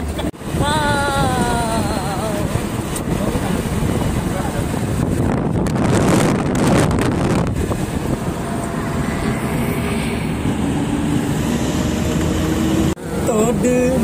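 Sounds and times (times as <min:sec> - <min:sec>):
wind buffeting microphone: 0:00.0 - 0:13.2
car engine and road noise: 0:00.0 - 0:14.0.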